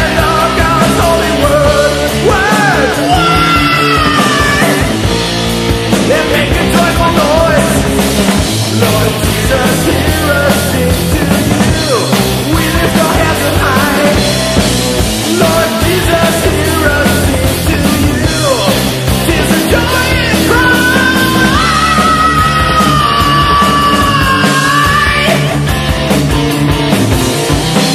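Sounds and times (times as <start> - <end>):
heavy metal band music: 0.0 - 27.9.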